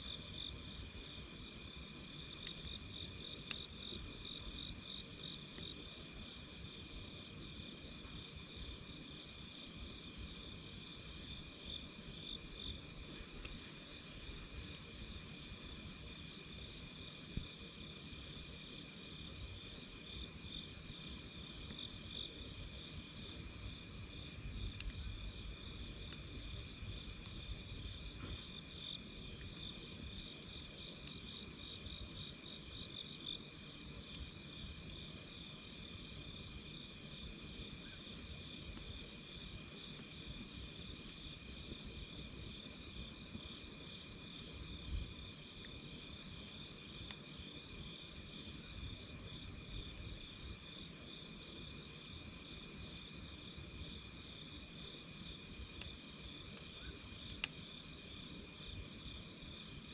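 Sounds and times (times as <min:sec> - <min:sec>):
insects chirping in a trill: 0:00.0 - 0:59.9.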